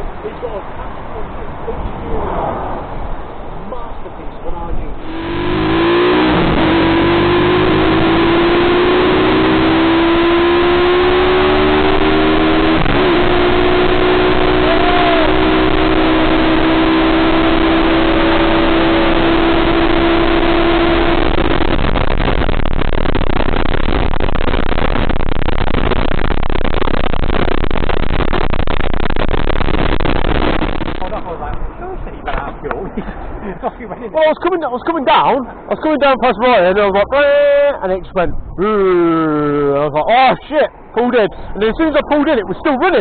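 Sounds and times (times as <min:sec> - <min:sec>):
wind rumble on microphone: 0:00.0 - 0:33.6, 0:37.9 - 0:39.9.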